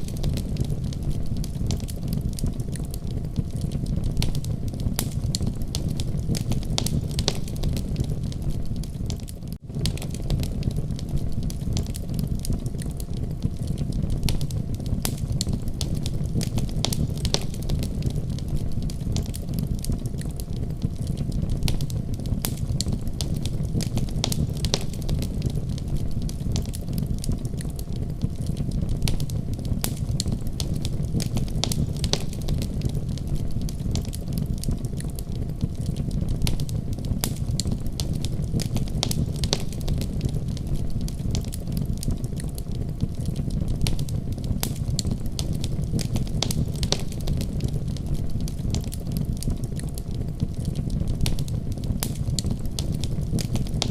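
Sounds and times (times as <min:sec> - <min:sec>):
fire crackling and popping: 0:00.0 - 0:53.9.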